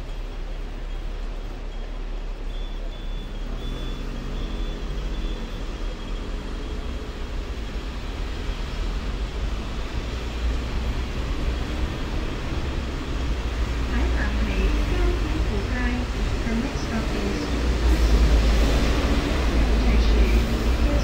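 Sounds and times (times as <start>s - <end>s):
tram low rumble: 0.0s - 21.0s.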